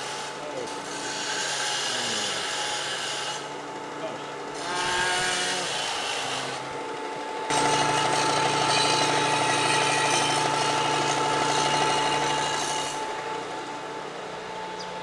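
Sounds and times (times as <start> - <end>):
electric power tool cutting metal: 0.0 - 3.6, 4.6 - 14.1.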